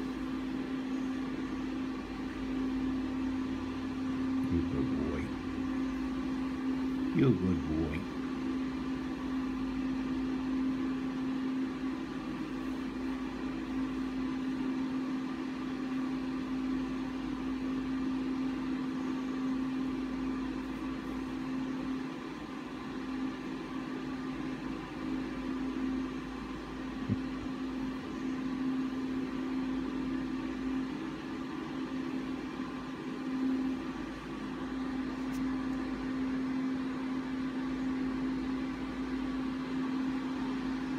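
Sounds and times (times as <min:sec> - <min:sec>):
faint high whine: 0:00.0 - 0:40.9.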